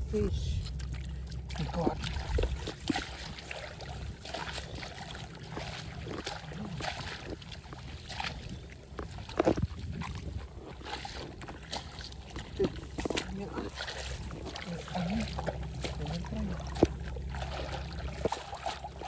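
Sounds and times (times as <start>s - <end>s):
muddy water sloshing and splashing: 0.0s - 19.0s.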